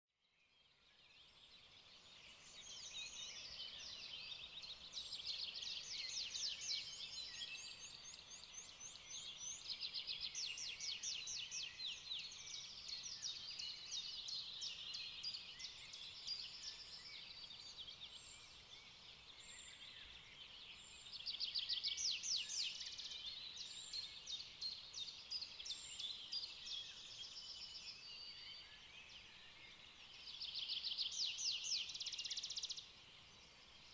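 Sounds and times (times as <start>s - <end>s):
faint steady hiss: 0.3s - 33.9s
birds chirping and singing: 1.0s - 33.9s.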